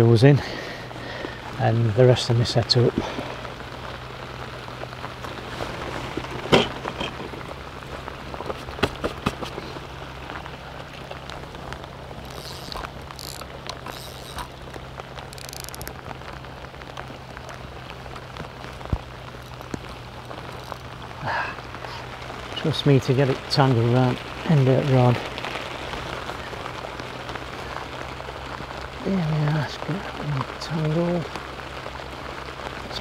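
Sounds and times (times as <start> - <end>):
heavy rain falling: 0.0 - 33.0
raindrops ticking close by: 0.0 - 33.0.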